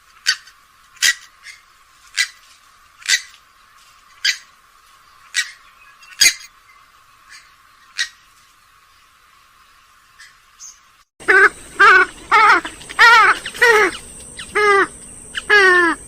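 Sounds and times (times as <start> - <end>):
swamphen calling: 0.2 - 9.0, 9.6 - 16.0.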